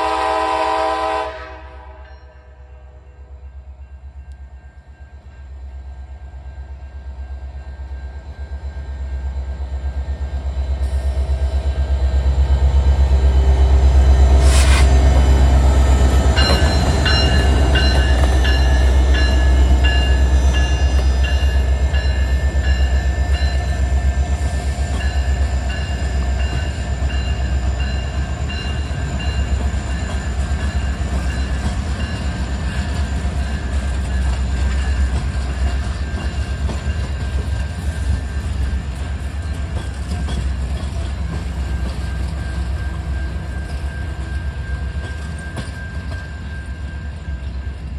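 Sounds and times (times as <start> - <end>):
diesel locomotive engine rumble: 0.0 - 47.9.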